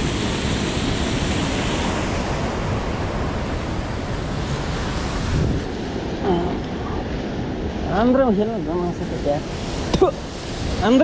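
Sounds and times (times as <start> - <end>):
fast river water rushing: 0.0 - 11.0
wind on microphone: 0.0 - 11.0.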